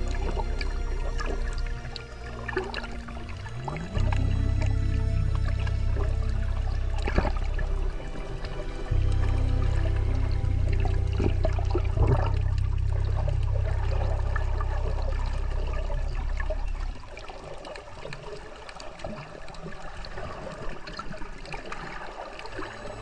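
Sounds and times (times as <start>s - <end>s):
low steady hum: 0.0s - 18.4s, 22.4s - 23.0s.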